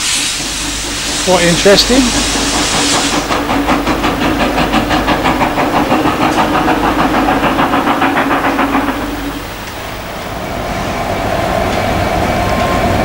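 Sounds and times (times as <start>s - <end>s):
railway locomotive running: 0.0s - 13.0s.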